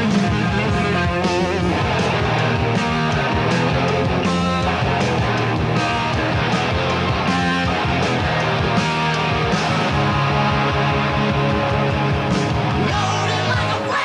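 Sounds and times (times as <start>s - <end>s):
bass guitar: 0.0s - 14.0s
distorted electric guitars: 0.0s - 14.0s
driving drum beat: 0.0s - 14.0s.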